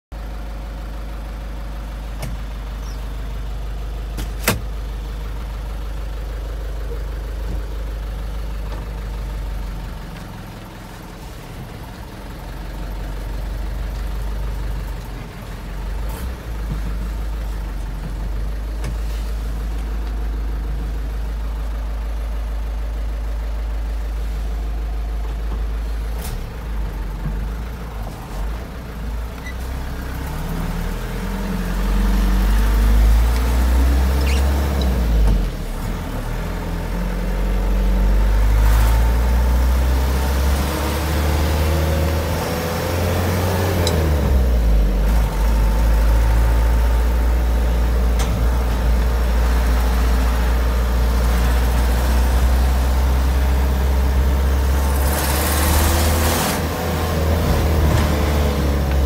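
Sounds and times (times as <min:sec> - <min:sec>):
diesel engine idling: 0:00.1 - 0:59.0.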